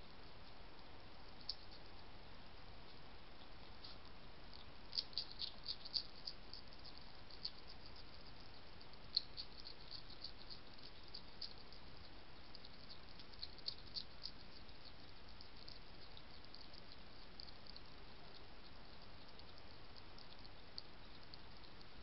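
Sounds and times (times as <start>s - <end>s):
faint hiss: 0.0s - 22.0s
hedgehog crunching food: 0.2s - 2.2s, 2.8s - 22.0s.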